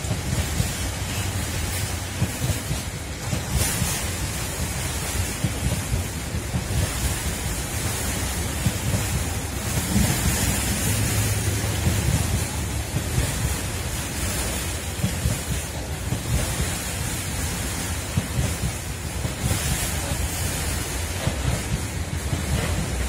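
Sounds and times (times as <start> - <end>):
train wheels rumbling on rail: 0.0 - 23.0
wind buffeting microphone: 0.0 - 23.0.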